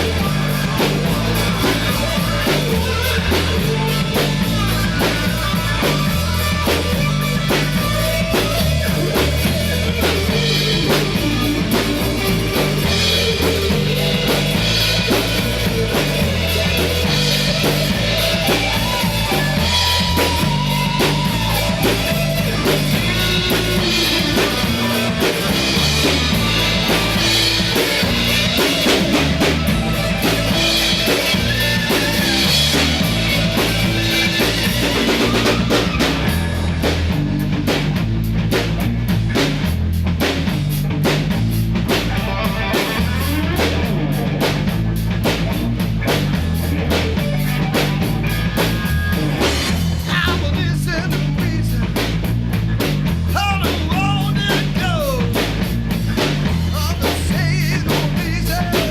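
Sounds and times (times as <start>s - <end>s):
bass guitar: 0.0s - 58.9s
drum kit beat: 0.0s - 58.9s
electric guitar: 0.0s - 58.9s.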